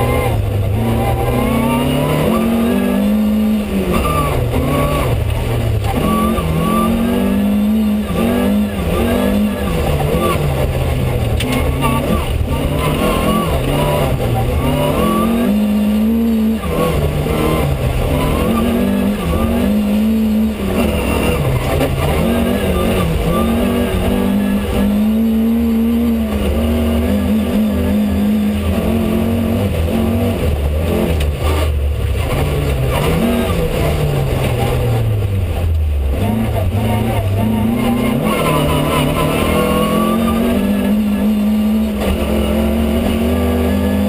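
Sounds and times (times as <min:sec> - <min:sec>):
rally car engine revving: 0:00.0 - 0:44.0.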